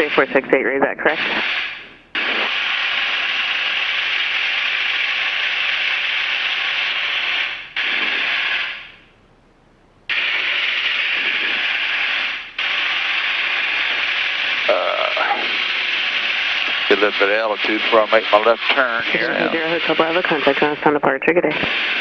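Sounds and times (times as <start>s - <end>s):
steady headset radio hiss: 0.0s - 22.0s.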